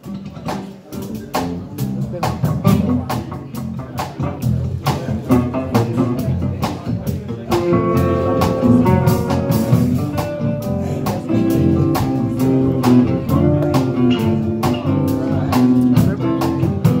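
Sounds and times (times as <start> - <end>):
acoustic and electric guitars: 0.0 - 17.0
drum kit beat: 0.0 - 17.0.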